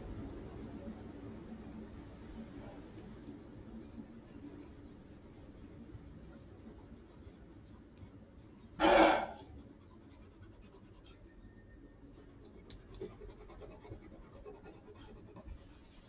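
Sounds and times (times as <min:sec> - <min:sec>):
fingertip rubbing paper: 0:00.8 - 0:11.3, 0:12.2 - 0:16.0.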